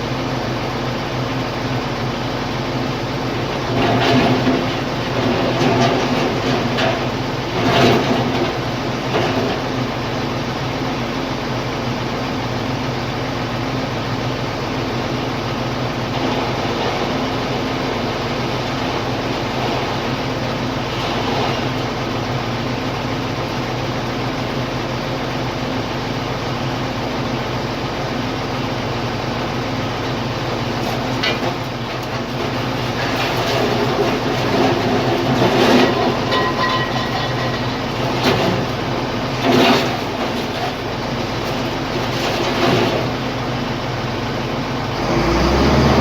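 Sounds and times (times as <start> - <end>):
engine running steadily: 0.0 - 46.0.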